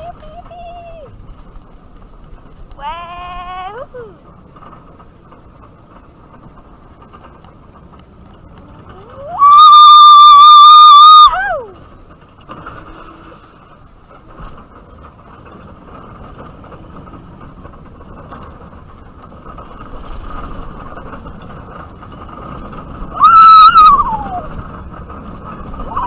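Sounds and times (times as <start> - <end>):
roller coaster car rattling: 0.0 - 26.0.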